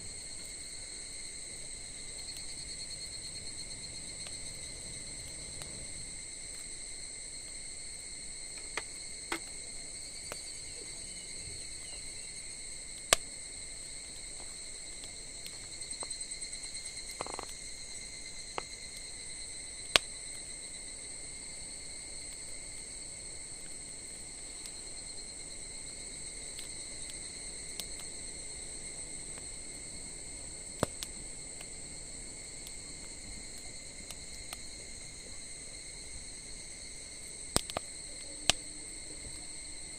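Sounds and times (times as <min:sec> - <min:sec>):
campfire crackling and popping: 0:00.0 - 0:39.9
insects chirring: 0:00.0 - 0:39.9.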